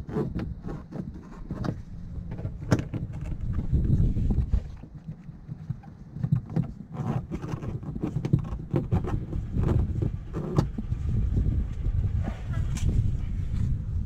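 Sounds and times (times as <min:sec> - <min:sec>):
low uneven rumble: 0:00.5 - 0:14.0.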